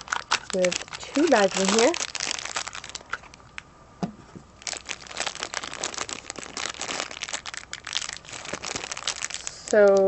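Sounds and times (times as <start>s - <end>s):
plastic bags crinkling: 0.0s - 3.6s, 4.6s - 10.0s.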